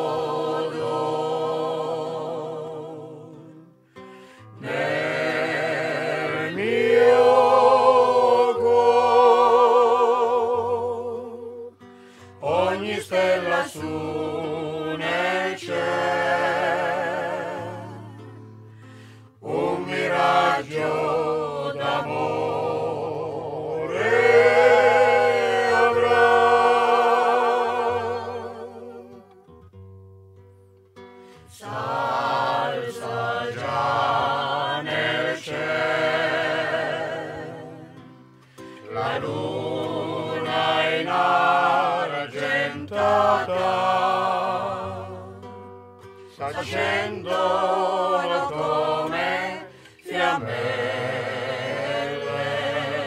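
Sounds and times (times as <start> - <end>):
group singing with vibrato: 0.0 - 18.5, 19.4 - 29.5, 31.5 - 53.0.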